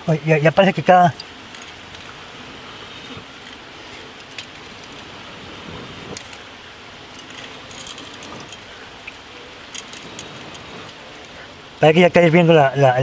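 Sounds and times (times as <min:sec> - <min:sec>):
stream rushing: 0:00.0 - 0:13.0
oil popping and crackling: 0:00.2 - 0:12.5.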